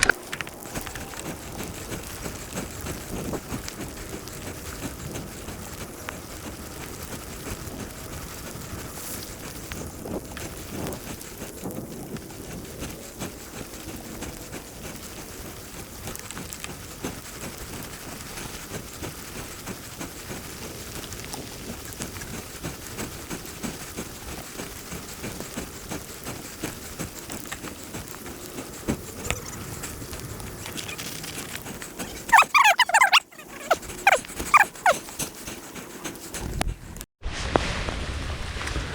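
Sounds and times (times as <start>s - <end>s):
rain pattering: 0.0s - 32.4s.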